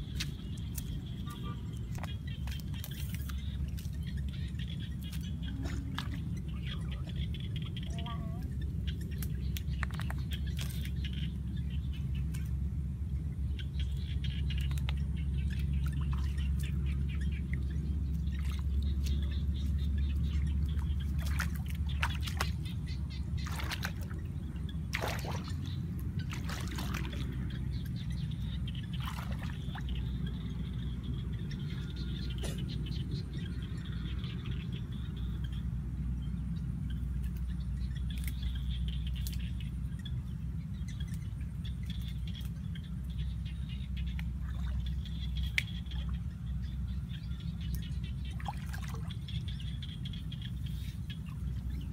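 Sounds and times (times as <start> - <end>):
person wading through shallow water: 0.0 - 12.6, 13.8 - 33.0, 37.0 - 51.9
steady low rumble: 0.0 - 51.9.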